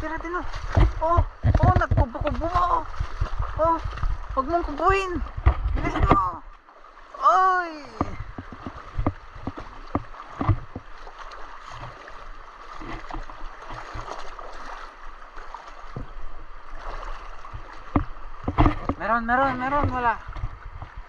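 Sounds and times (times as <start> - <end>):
river water rushing: 0.0 - 21.0
wading splashes in water: 0.0 - 21.0.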